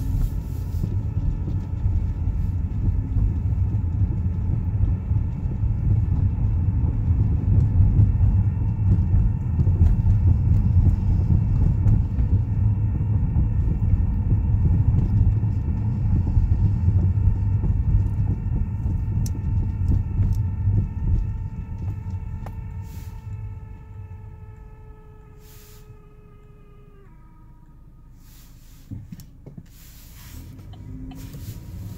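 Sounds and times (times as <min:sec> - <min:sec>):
car engine rumble: 0:00.0 - 0:31.9
steady engine whine: 0:00.0 - 0:31.9.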